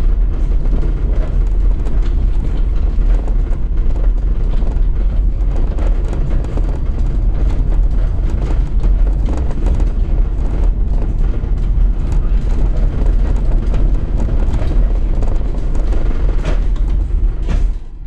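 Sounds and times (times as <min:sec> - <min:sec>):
bus body rattling and knocking: 0:00.0 - 0:18.0
tyres rumbling on cobbles: 0:00.0 - 0:18.0.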